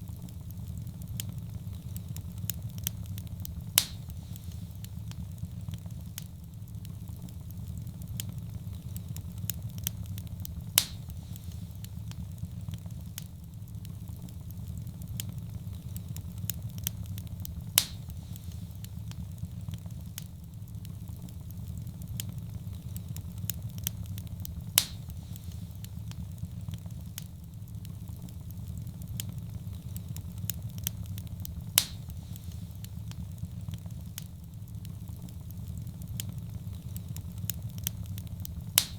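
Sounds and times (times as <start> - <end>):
fire popping: 0.0 - 38.9
wood fire crackling: 0.0 - 38.9.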